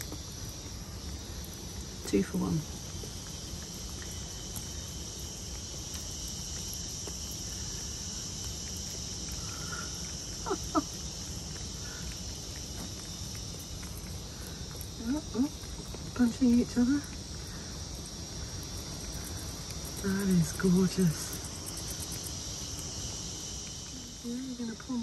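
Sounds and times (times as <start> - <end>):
insect chorus: 0.0 - 25.0
faint lapping clicks: 2.8 - 22.9.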